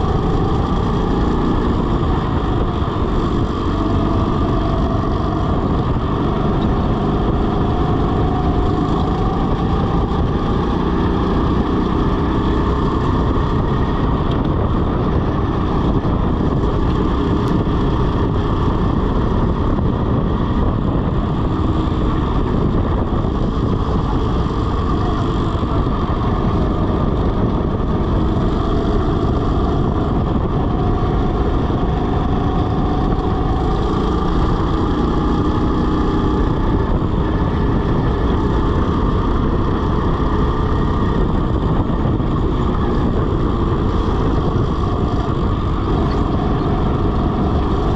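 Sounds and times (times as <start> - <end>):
go-kart engine revving: 0.0 - 47.9.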